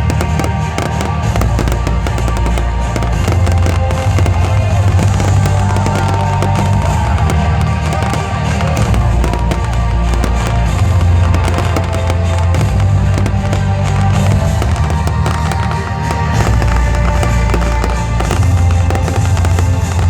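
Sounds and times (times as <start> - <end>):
fireworks popping and banging: 0.0 - 20.0
music with heavy bass: 0.0 - 20.0.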